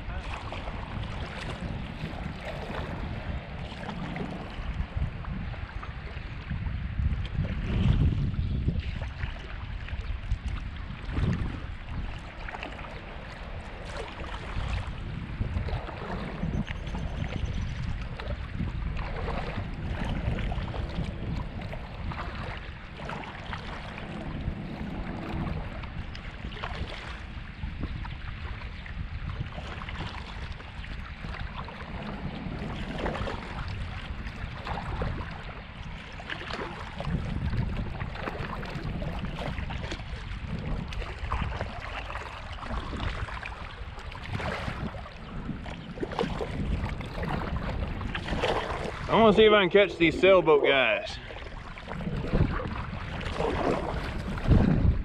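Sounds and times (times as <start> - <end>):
water splashing and lapping: 0.0 - 55.0
wind buffeting microphone: 0.0 - 55.0.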